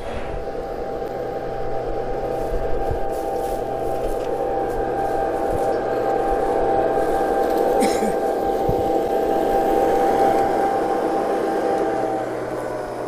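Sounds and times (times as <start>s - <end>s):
model locomotive humming: 0.0s - 13.0s.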